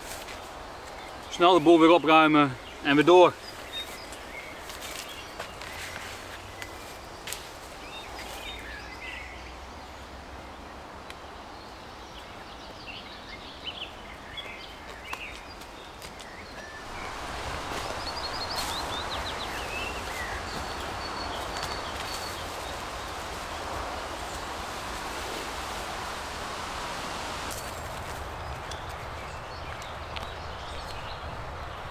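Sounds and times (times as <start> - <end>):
leaves and undergrowth rustling: 0.0 - 9.2, 12.2 - 31.9
small birds chirping and singing: 0.8 - 10.0, 11.3 - 26.4, 27.5 - 31.9.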